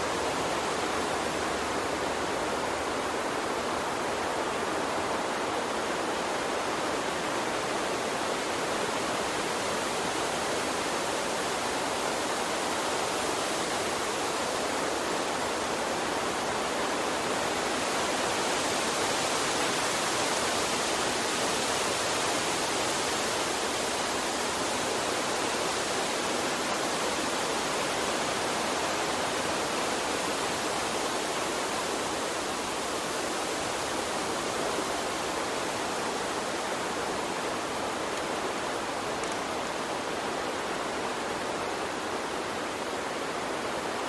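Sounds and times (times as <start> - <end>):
water stream rushing: 0.0 - 44.0.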